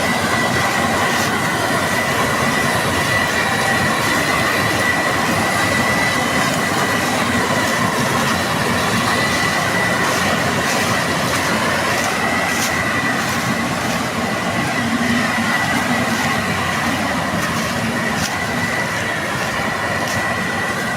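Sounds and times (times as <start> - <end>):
combine harvester running: 0.0 - 20.9
thin high whine: 0.0 - 20.9.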